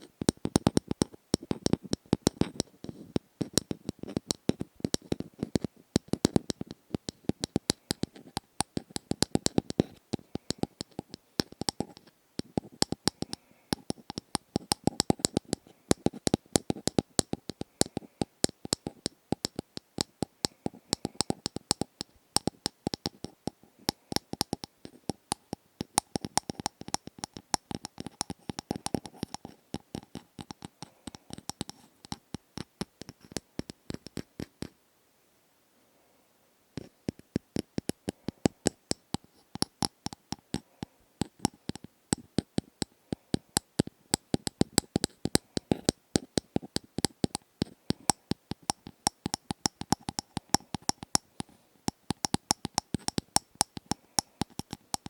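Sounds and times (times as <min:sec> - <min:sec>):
rapid light tapping: 0:00.0 - 0:34.7, 0:36.8 - 0:55.0.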